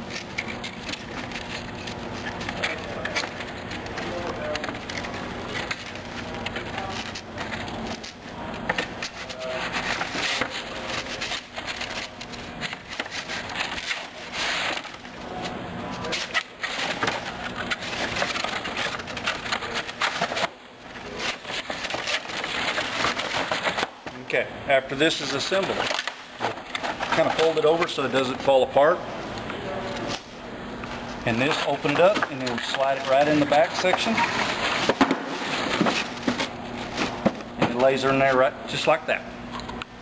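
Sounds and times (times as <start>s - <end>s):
cardboard rustling and scraping: 0.0s - 24.1s, 25.1s - 38.0s.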